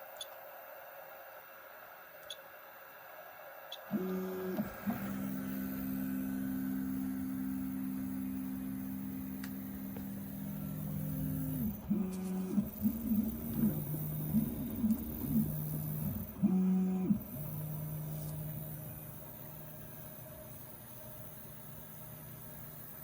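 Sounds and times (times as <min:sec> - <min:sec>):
stepper motors whining: 0:03.8 - 0:23.0.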